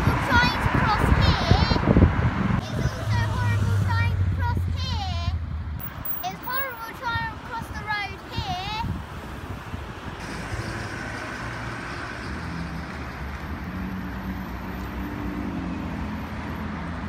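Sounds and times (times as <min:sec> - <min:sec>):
passing vehicle engine hum: 0:00.0 - 0:06.7, 0:09.9 - 0:17.0
road traffic passing: 0:00.0 - 0:17.0.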